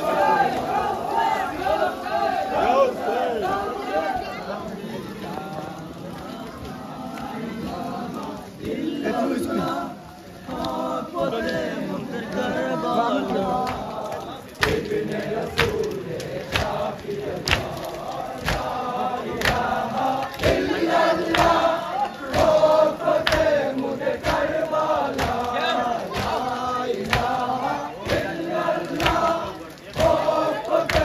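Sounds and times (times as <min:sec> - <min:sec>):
crowd of men chanting in unison: 0:00.0 - 0:31.0.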